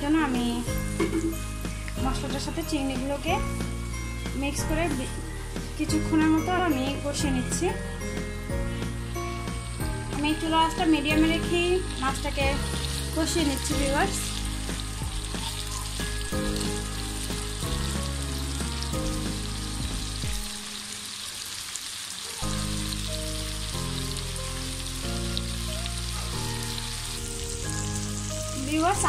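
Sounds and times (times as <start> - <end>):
background music low notes: 0.0 - 21.5, 22.4 - 29.0
prawns sizzling in hot oil: 0.0 - 29.0.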